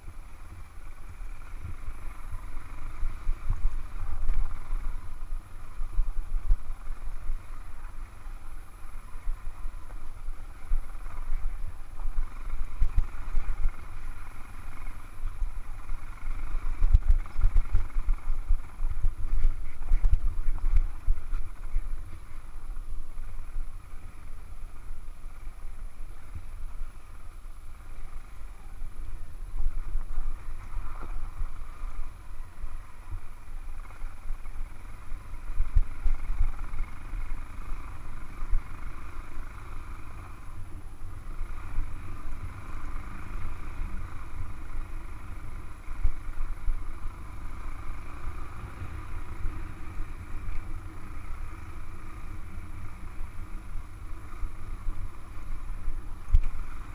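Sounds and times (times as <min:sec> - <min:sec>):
motorcycle engine drone: 0:00.0 - 0:56.9
wind rumble on microphone: 0:00.0 - 0:56.9.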